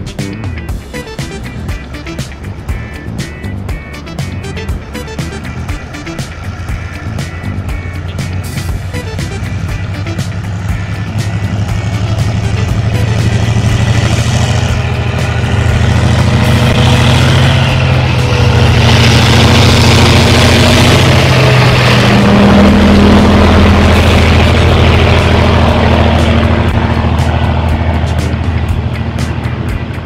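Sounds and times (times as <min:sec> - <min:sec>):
diesel locomotive engine running: 0:00.0 - 0:30.0
wheel and track noise: 0:00.2 - 0:30.0.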